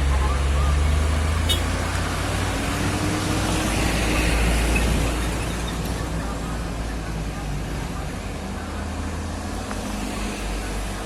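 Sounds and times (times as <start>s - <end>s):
diesel truck engine droning: 0.0s - 11.0s
road noise: 0.0s - 11.0s.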